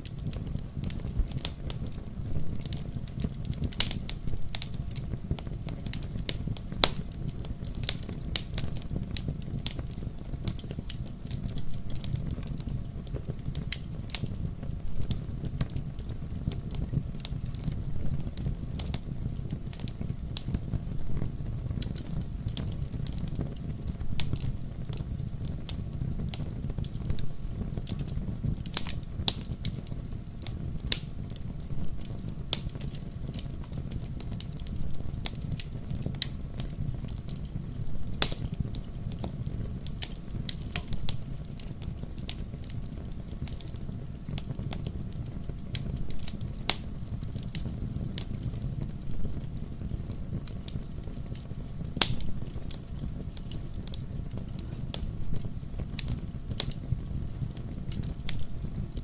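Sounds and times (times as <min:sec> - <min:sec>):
bonfire crackling and popping: 0:00.0 - 0:59.0
fire low rumble: 0:00.0 - 0:59.0.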